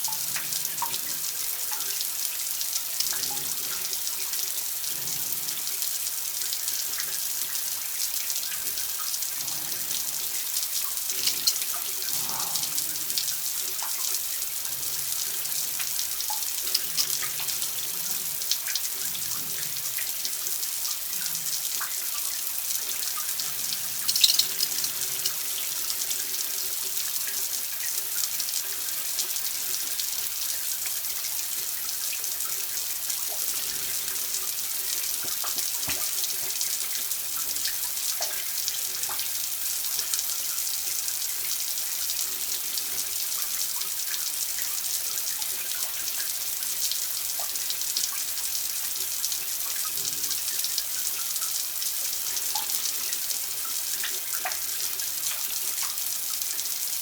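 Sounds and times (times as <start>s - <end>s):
tap water running into sink: 0.0s - 56.8s
water drips and splashes: 0.0s - 57.0s.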